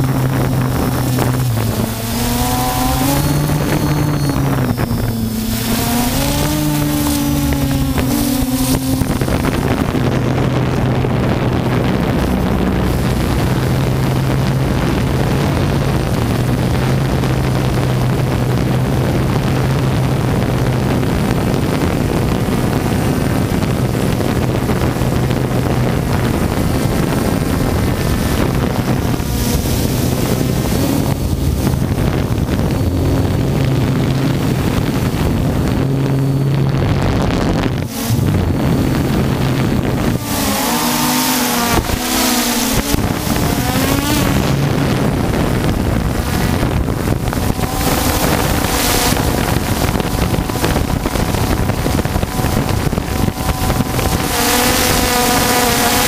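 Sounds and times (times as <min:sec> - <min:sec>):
drone motors humming: 0:00.0 - 0:56.0
wind buffeting microphone: 0:00.0 - 0:56.0.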